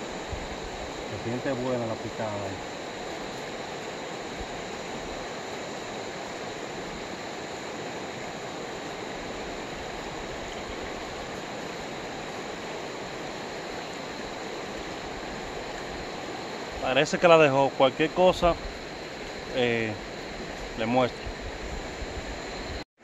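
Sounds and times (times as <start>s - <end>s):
river rushing over stones: 0.0s - 21.8s.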